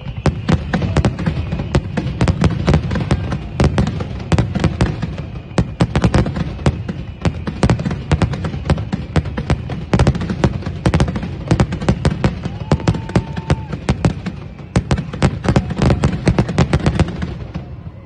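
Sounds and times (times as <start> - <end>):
deep fireworks booming: 0.0 - 18.0
fireworks bangs and crackles: 0.0 - 18.0.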